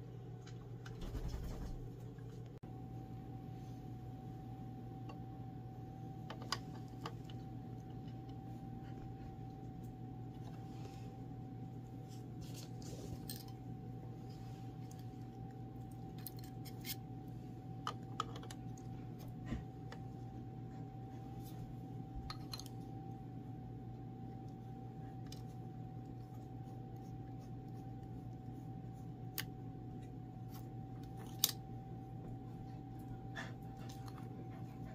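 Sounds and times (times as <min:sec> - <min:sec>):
low hum with thin tone: 0:00.0 - 0:34.9.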